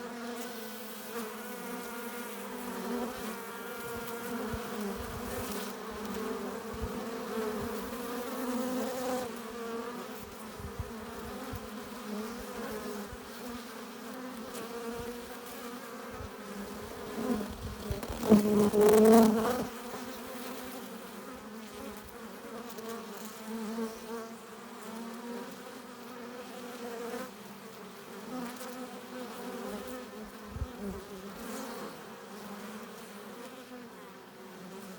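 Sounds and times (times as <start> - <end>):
honeybees buzzing: 0.0 - 34.9.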